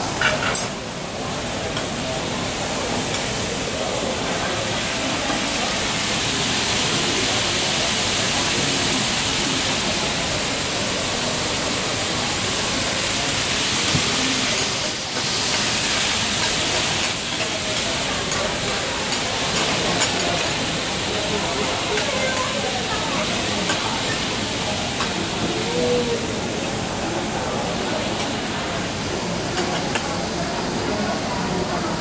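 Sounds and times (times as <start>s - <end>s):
food sizzling on griddle: 0.0s - 32.0s.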